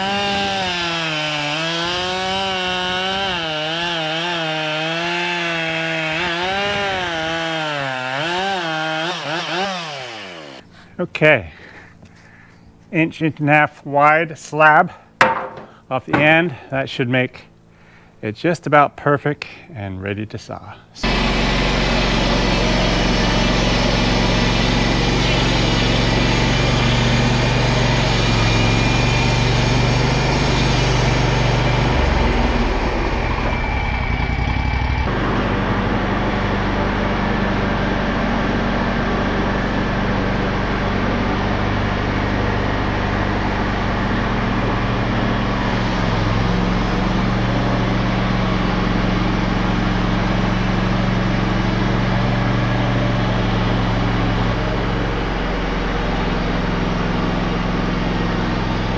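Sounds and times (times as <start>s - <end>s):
sawmill engine running: 0.0s - 10.7s, 21.0s - 58.9s.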